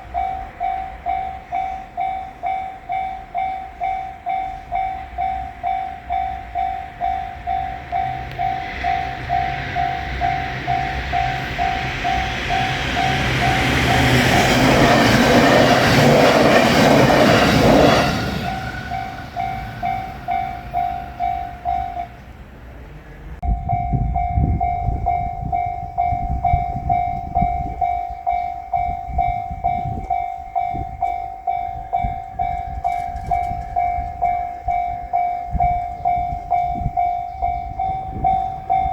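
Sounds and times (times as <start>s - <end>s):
railroad crossing bell clanging: 0.0s - 38.9s
train passing: 0.0s - 38.9s.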